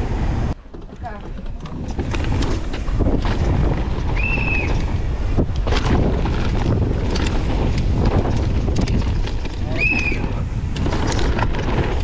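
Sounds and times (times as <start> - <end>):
wind rushing over microphone: 0.0 - 12.0
bike rattling over ground: 0.6 - 12.0.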